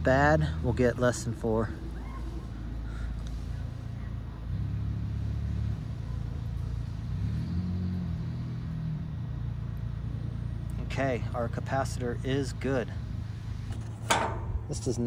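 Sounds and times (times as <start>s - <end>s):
engine-like rumble: 0.0s - 15.0s.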